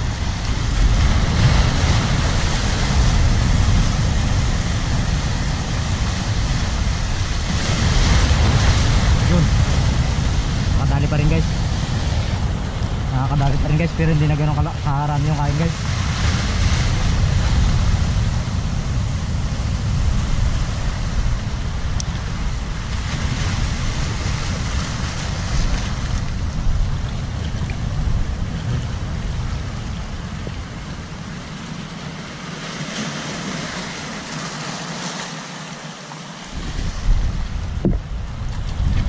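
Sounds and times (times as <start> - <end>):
wind buffeting microphone: 0.0 - 32.4, 36.5 - 39.0
waves washing over rocks: 0.0 - 39.0.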